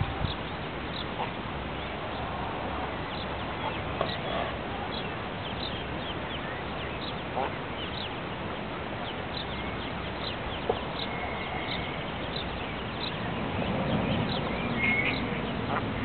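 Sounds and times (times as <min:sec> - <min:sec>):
ducklings peeping: 0:03.0 - 0:16.0.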